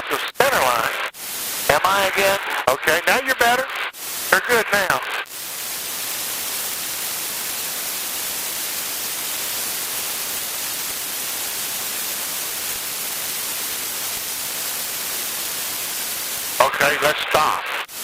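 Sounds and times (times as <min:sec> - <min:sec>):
cockpit audio hiss: 0:00.0 - 0:18.0.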